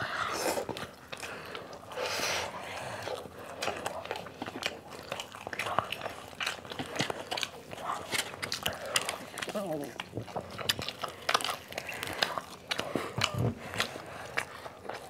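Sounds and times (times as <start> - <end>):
chewing crispy fried chicken: 0.0 - 15.0.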